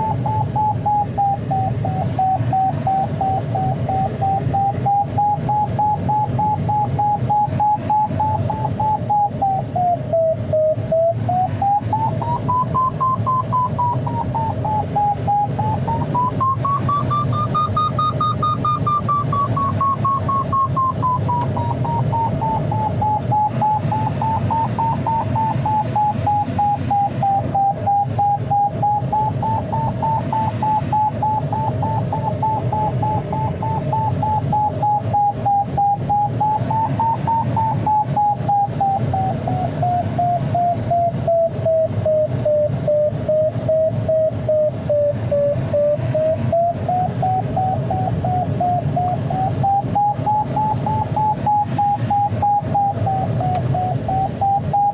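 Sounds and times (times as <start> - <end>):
pulsing electronic variometer tone: 0.0 - 54.9.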